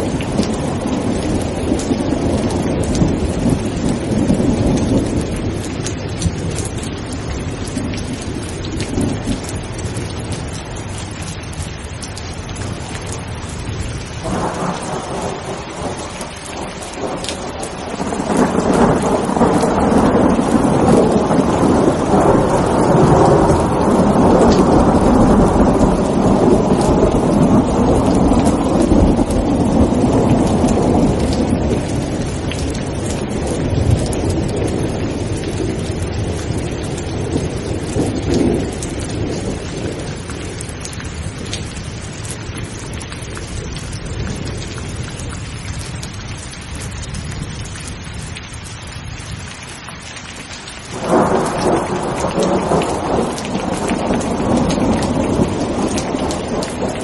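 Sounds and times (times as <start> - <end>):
rolling thunder: 0.0 - 10.9, 12.6 - 46.1, 50.9 - 57.0
steady rain falling: 0.0 - 57.0.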